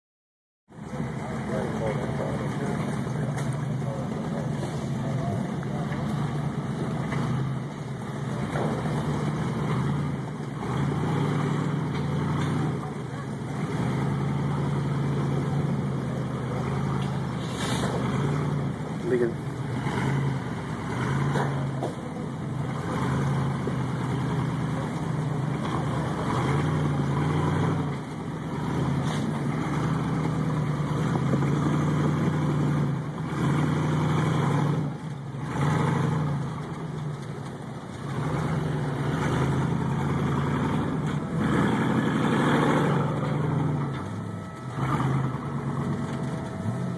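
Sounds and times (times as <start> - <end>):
off-road vehicle engine revving: 0.7 - 46.9.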